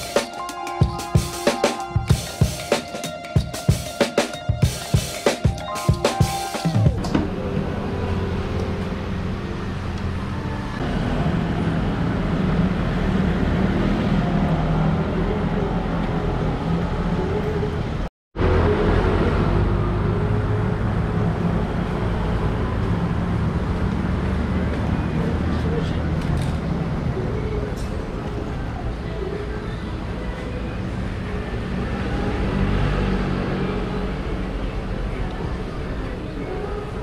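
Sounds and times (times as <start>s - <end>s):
traffic noise: 0.0s - 37.0s
vehicle engine humming: 0.0s - 37.0s.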